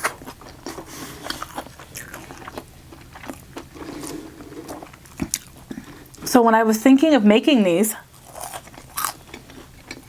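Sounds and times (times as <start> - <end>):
person chewing food: 0.0 - 6.3, 8.0 - 10.0.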